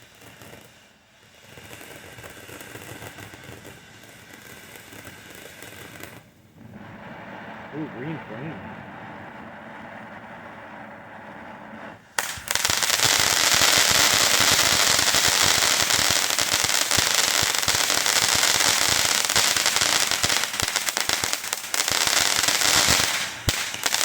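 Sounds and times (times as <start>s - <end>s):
dense firework crackling: 0.0s - 24.0s
firework fountain hissing: 0.0s - 24.0s.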